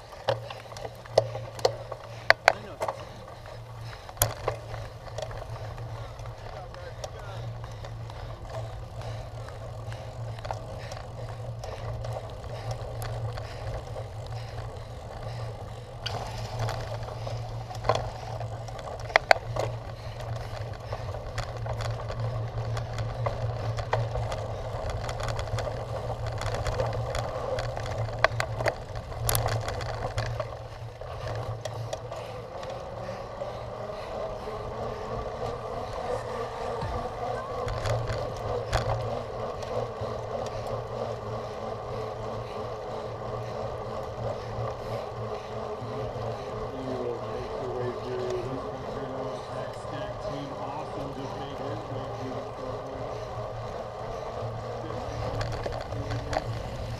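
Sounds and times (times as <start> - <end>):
bike tyres and frame rattling: 0.0 - 56.9
low hum: 0.0 - 56.9.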